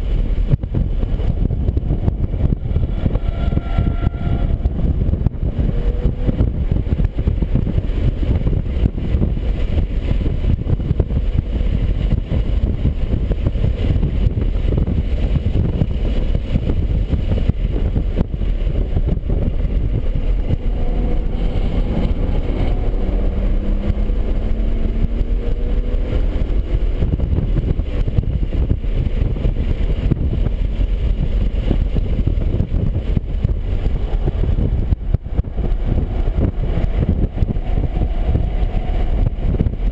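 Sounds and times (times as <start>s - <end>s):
car engine running at speed: 0.0s - 39.9s
heavy wind: 0.0s - 39.9s
road rumble: 0.0s - 39.9s.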